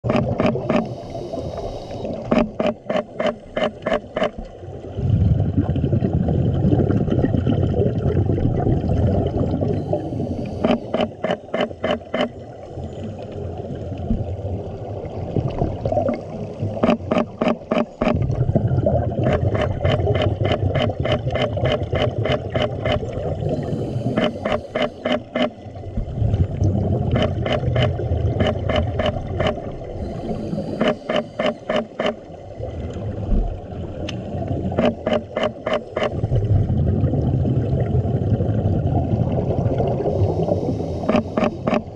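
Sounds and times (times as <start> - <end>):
exhaled air bubbling: 0.0 - 41.9.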